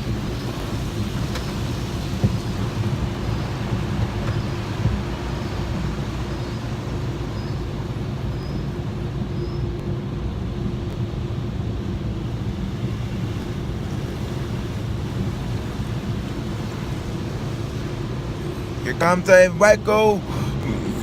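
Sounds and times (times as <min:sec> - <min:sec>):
car wash machinery humming: 0:00.0 - 0:21.0
rushing water noise: 0:00.0 - 0:21.0.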